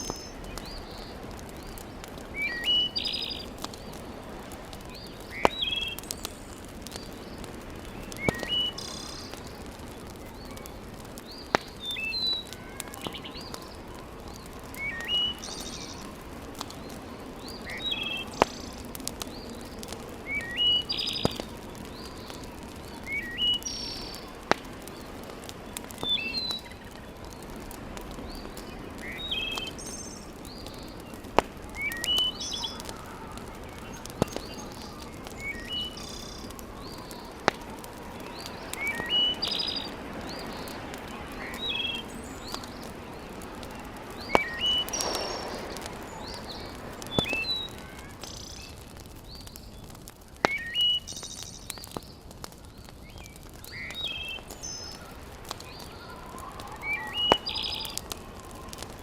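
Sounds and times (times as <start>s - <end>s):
sharp loud pops of fire: 0.0s - 59.0s
wood fire crackling: 0.0s - 59.0s
songbird chirping: 4.8s - 48.8s, 52.8s - 58.6s.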